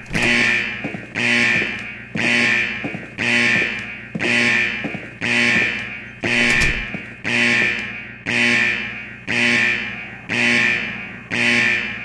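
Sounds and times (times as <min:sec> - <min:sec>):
fire alarm ringing: 0:00.0 - 0:12.0.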